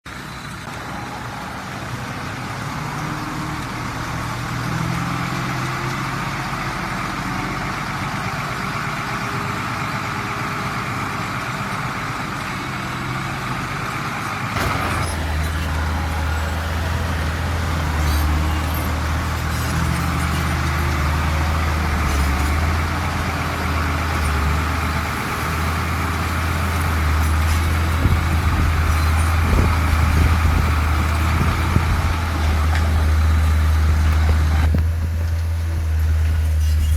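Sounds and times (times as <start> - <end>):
heavy diesel machinery running: 0.1 - 36.9.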